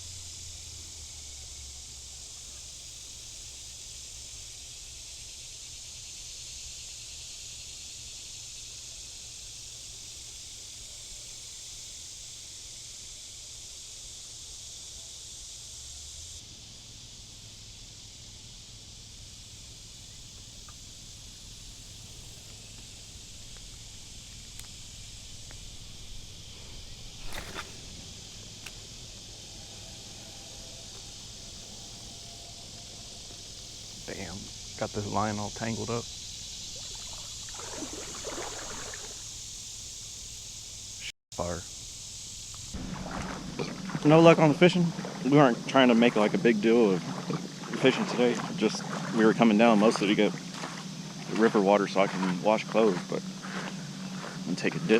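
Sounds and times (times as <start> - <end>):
insect chorus drone: 0.0 - 54.9.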